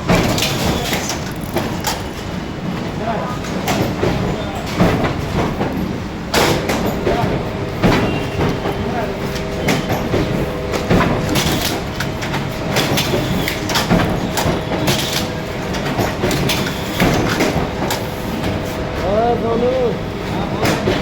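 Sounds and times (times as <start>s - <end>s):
machine motor hum: 0.0s - 2.7s, 3.9s - 21.0s
mechanical clacks: 0.0s - 21.0s.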